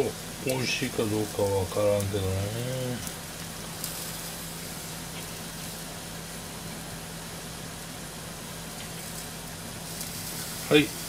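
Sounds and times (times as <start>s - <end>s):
cooktop fan humming: 0.0s - 11.0s.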